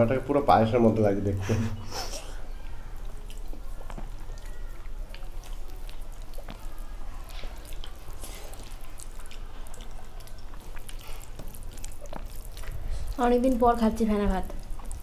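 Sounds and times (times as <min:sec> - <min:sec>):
lip smacks and chewing: 0:01.8 - 0:13.7, 0:14.3 - 0:15.0.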